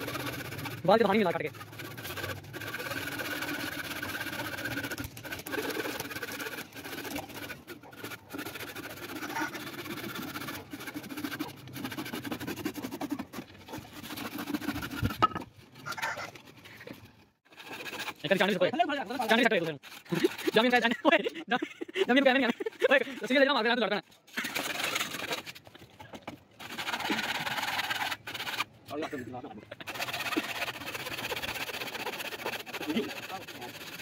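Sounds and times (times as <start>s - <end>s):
hand saw cutting wood: 0.0s - 29.1s, 29.7s - 34.0s.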